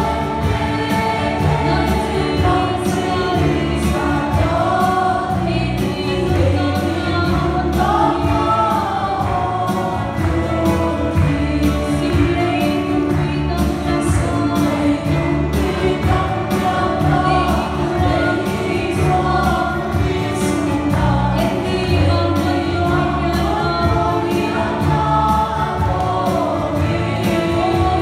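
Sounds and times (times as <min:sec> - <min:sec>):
group singing worship song: 0:00.0 - 0:28.0
strummed acoustic guitar: 0:00.0 - 0:28.0.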